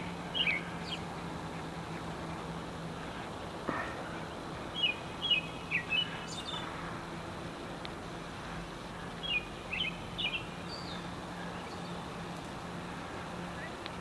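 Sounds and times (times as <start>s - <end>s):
low hum of street noise: 0.0s - 14.0s
songbird chirping: 0.0s - 14.0s.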